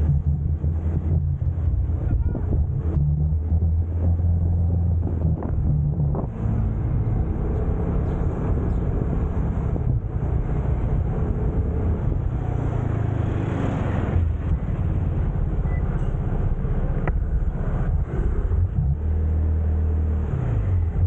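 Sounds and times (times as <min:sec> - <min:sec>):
road and wind noise: 0:00.0 - 0:21.0.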